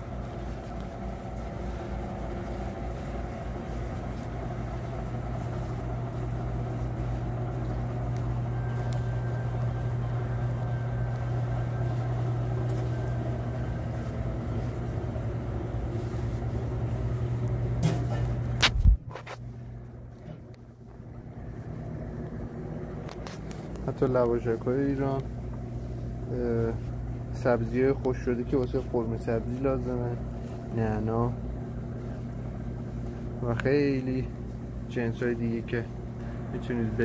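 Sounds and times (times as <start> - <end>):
low machine hum: 0.0 - 37.0.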